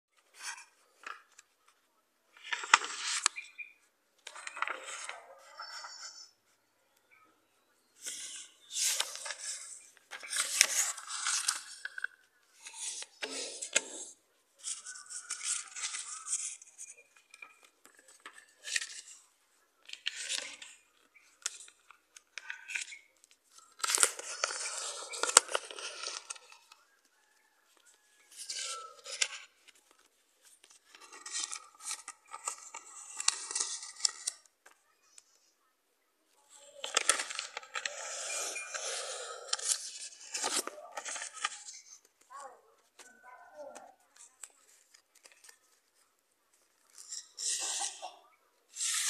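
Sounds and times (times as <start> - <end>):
paper rustling and crinkling: 0.2 - 3.5, 4.2 - 6.2, 8.0 - 35.5, 36.5 - 49.0.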